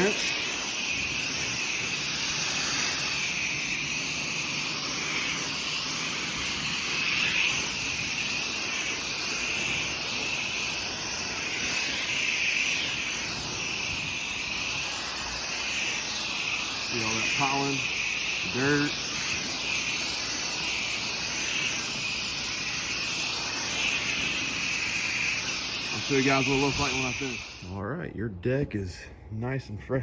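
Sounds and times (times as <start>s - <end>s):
pressure washer spraying boards: 0.0s - 27.8s.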